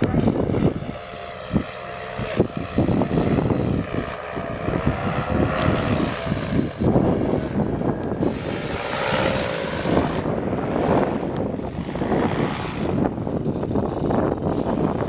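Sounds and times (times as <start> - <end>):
paramotor engine buzzing: 0.0 - 15.0
wind noise on microphone: 0.0 - 15.0.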